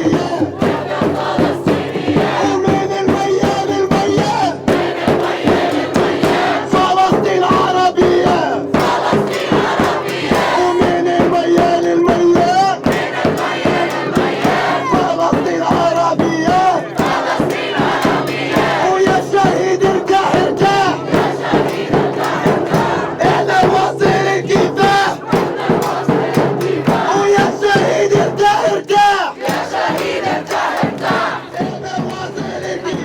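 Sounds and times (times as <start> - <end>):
crowd chanting in unison: 0.0 - 33.0
fast sharp beats: 0.0 - 33.0.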